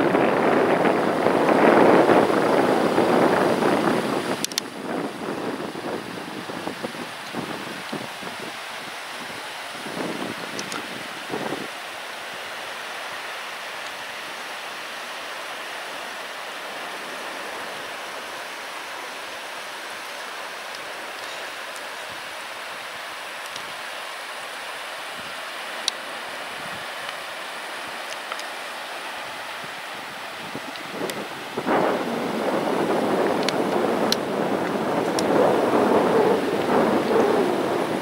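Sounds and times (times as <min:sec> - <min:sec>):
meltwater rushing: 0:00.0 - 0:38.0.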